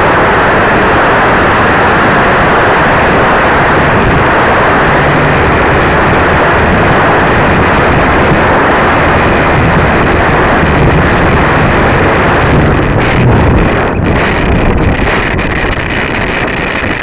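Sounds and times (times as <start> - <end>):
airflow and propeller noise: 0.0 - 17.0.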